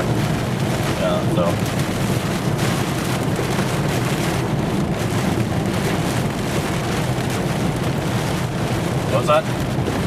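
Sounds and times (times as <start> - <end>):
car running noise: 0.0 - 10.0
rain on a car: 0.0 - 10.0
wind: 0.0 - 10.0.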